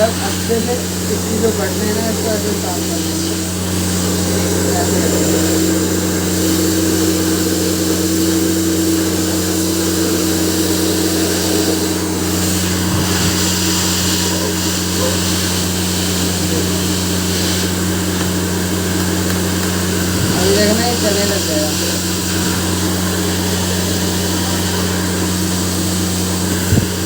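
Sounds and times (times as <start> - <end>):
hair dryer running: 0.0 - 27.0.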